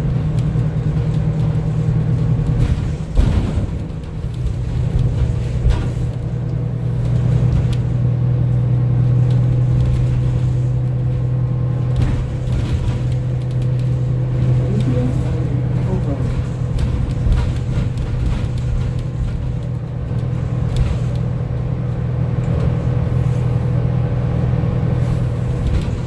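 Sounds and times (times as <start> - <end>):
bus engine low drone: 0.0 - 26.0.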